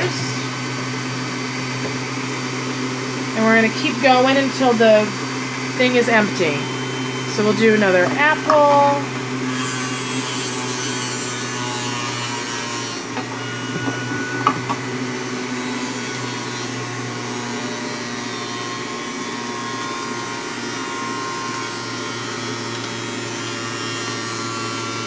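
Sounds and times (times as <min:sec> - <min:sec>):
juicer motor grinding apple: 0:00.0 - 0:25.0.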